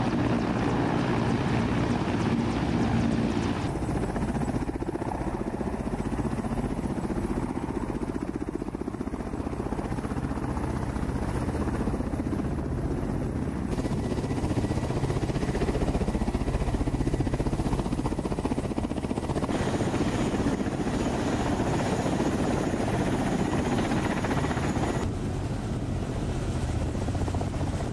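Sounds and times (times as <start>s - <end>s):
helicopter rotor blade chop: 0.0s - 27.9s.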